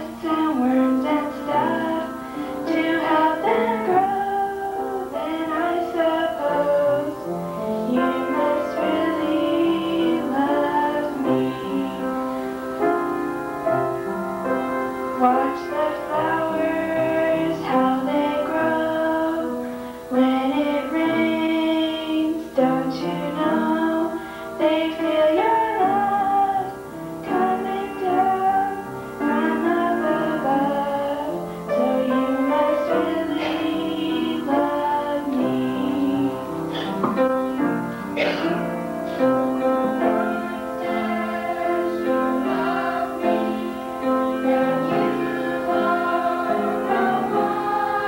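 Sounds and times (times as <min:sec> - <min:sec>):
woman singing into microphone: 0:00.0 - 0:12.4, 0:15.2 - 0:48.0
children singing: 0:00.0 - 0:13.2, 0:13.8 - 0:48.0
instrumental accompaniment: 0:00.0 - 0:48.0.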